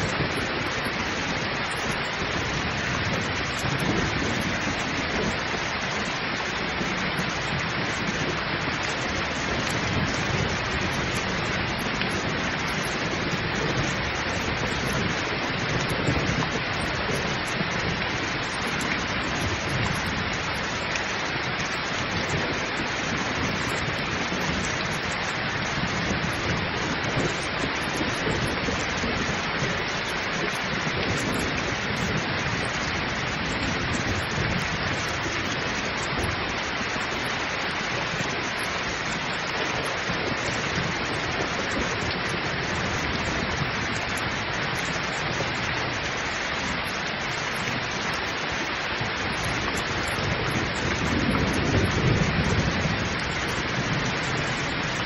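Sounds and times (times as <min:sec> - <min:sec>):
heavy rain pouring: 0:00.0 - 0:55.0
thunder rumbling: 0:00.0 - 0:55.0.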